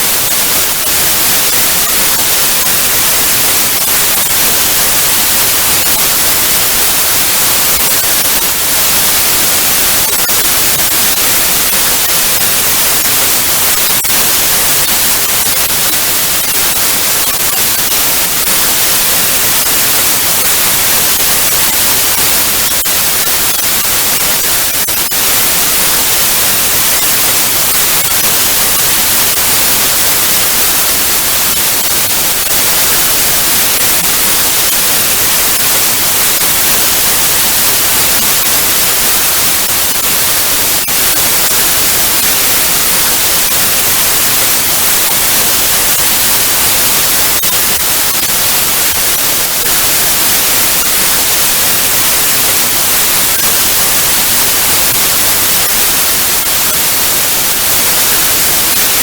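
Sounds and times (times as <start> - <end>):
tv static hiss: 0.0 - 59.0.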